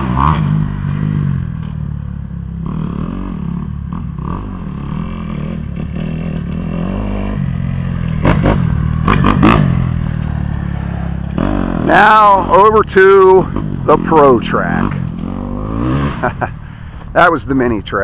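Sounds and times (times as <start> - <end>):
dirt bike engine revving: 0.0 - 17.4.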